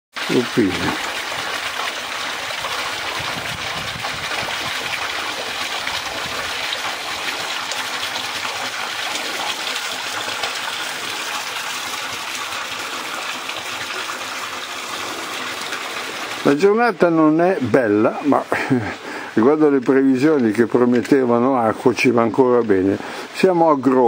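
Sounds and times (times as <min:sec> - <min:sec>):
fountain water pouring into trough: 0:00.1 - 0:24.0.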